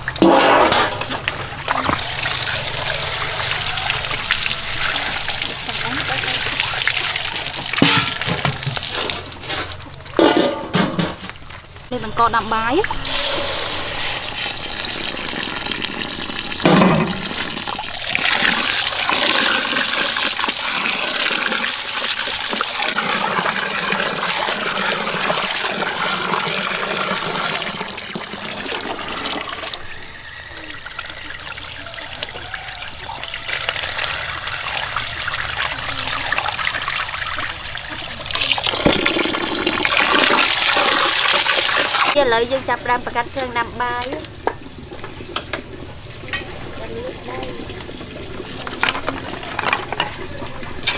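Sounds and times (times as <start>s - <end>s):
tap water running into pot: 0.0s - 42.3s, 43.0s - 50.2s.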